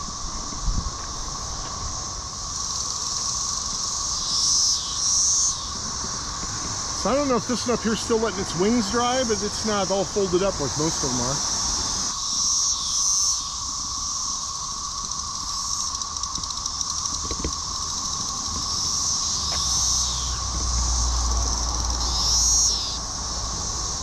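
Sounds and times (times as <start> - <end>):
cicada chorus drone: 0.0 - 24.0
high hissing cicada buzz: 0.0 - 24.0.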